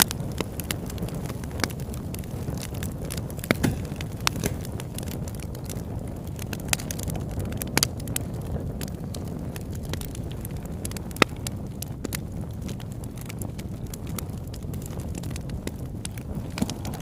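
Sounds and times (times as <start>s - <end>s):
campfire crackling: 0.0s - 17.0s
sharp fire pops: 0.0s - 17.0s.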